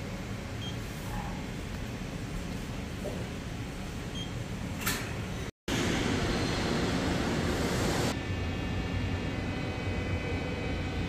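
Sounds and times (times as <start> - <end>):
factory ventilation and machinery hum: 0.0 - 11.0.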